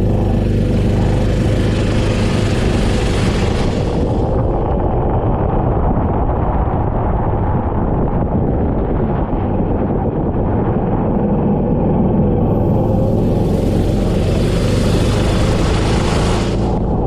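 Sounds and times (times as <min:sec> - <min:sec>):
kart engine running: 0:00.0 - 0:06.7, 0:09.7 - 0:17.0
wind noise on microphone: 0:00.0 - 0:17.0.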